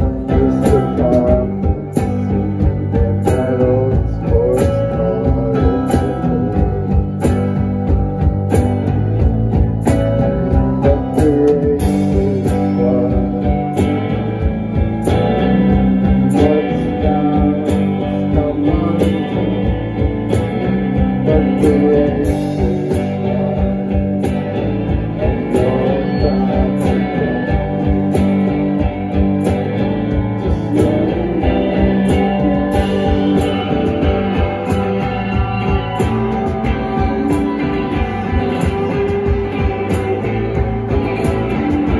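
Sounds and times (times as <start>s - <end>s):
rock band playing: 0.0s - 41.9s.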